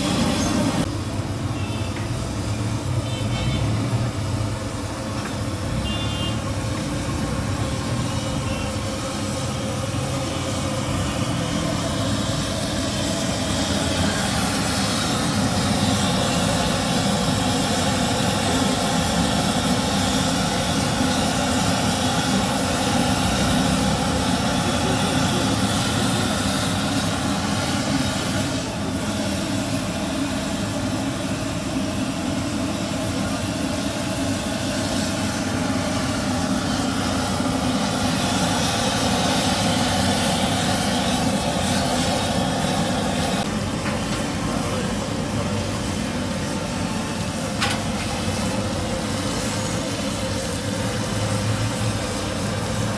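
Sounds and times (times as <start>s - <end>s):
batter sizzling in hot oil: 0.0s - 52.9s
gas burner roaring: 0.0s - 52.9s.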